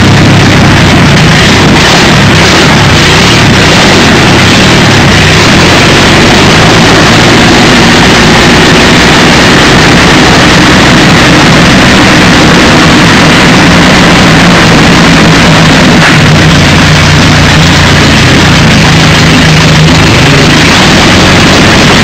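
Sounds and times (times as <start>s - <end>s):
loud aero engine running: 0.0s - 22.0s.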